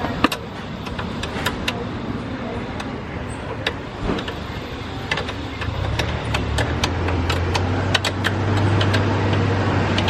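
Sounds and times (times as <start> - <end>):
sharp metallic clicks and taps: 0.0 - 1.8, 3.5 - 10.0
engine running steadily: 0.0 - 10.0.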